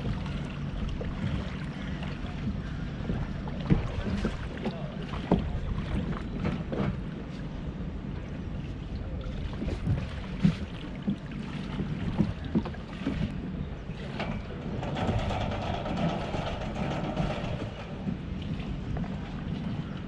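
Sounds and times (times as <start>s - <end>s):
outboard motor running: 0.0s - 20.0s
water knocking against hull: 0.0s - 20.0s
wind on microphone: 0.0s - 20.0s.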